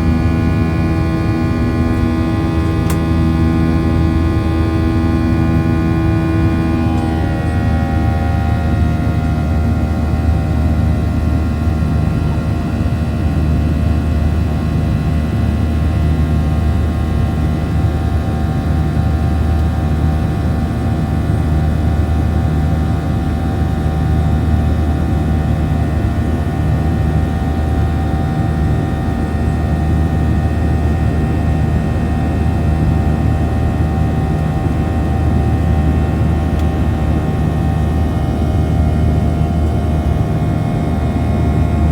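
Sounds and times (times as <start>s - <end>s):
jet engines droning in cabin: 0.0s - 41.9s.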